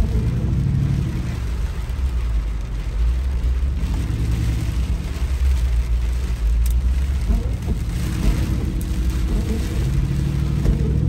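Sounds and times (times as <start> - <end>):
car engine drone inside cabin: 0.0 - 11.0
tyres hissing on wet road: 0.0 - 11.0.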